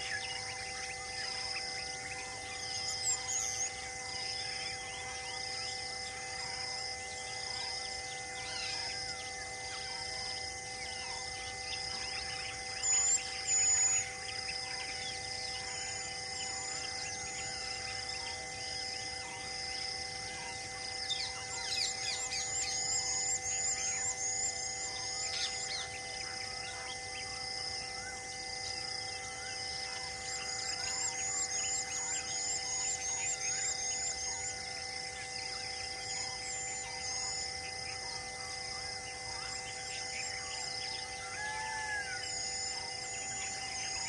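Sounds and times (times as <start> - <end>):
insect drone: 0.0 - 44.0.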